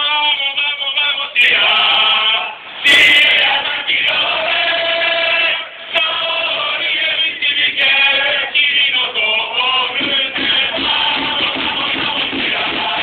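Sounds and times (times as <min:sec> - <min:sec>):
football supporters chanting: 0:01.4 - 0:13.0.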